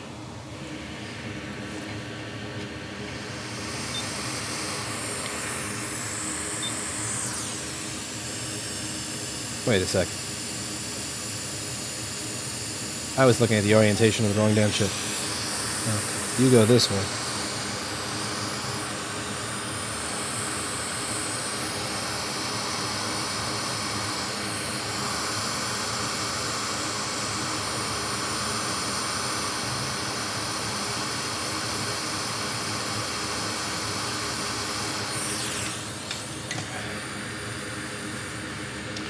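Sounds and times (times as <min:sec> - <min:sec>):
hot air blower hiss: 0:00.0 - 0:39.0.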